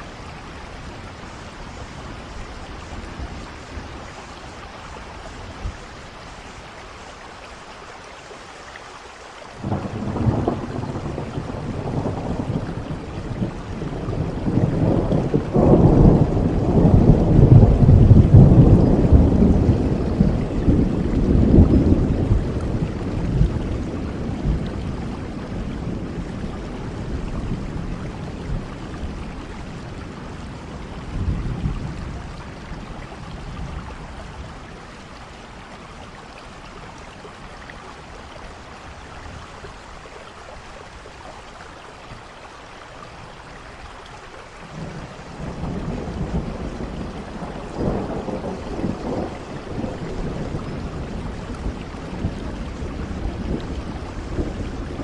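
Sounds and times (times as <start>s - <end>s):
low rumble of thunder: 0.0s - 7.2s, 9.6s - 41.1s, 44.3s - 55.0s
steady rain: 0.0s - 55.0s.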